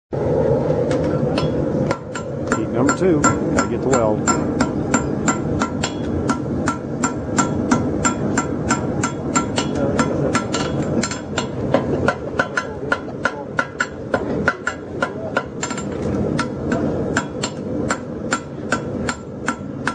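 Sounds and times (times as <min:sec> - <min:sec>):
hammer striking horseshoe on anvil: 0:01.4 - 0:19.9.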